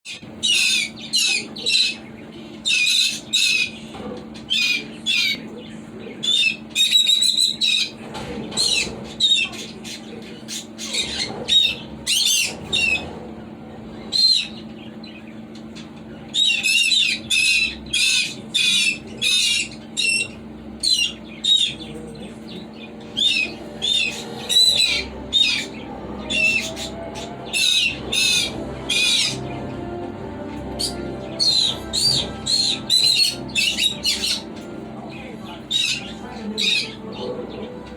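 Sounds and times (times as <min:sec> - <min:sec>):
parrots chirping and squawking: 0:00.1 - 0:37.9.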